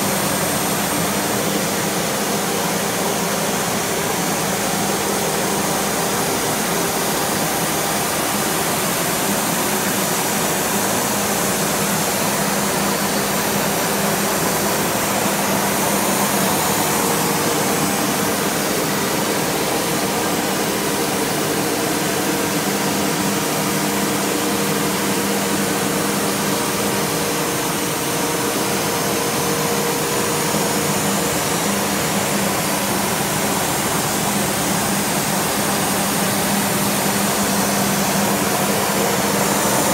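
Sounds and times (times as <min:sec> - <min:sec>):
cnc router cutting: 0:00.0 - 0:39.9
dust collection hose drawing air: 0:00.0 - 0:39.9
steady hums: 0:00.0 - 0:39.9.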